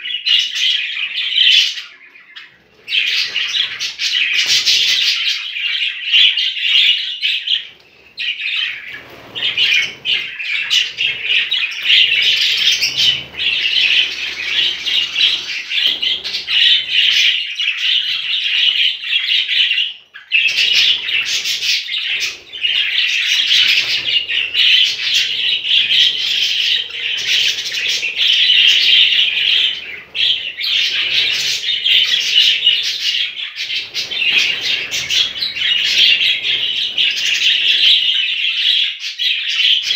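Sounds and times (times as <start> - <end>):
budgerigars chattering and chirping: 0.1 - 39.9.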